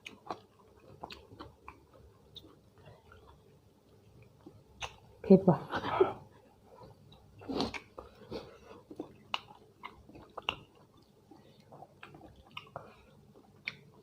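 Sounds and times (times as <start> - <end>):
person chewing food: 0.0 - 5.2, 6.4 - 14.0.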